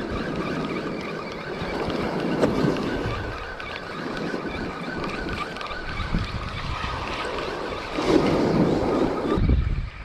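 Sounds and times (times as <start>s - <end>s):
fishing reel gears whirring: 0.0s - 8.0s
surf: 0.0s - 9.5s
wind on microphone: 0.0s - 10.0s.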